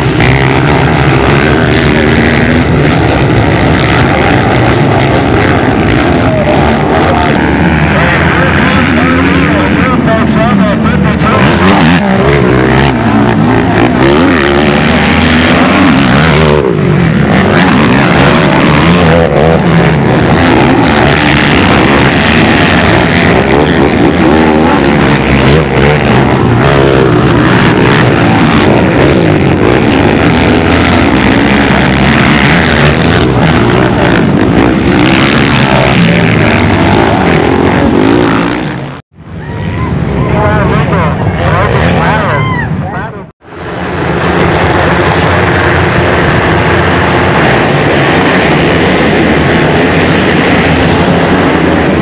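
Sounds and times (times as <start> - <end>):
racing atv engines revving: 0.0 - 52.0.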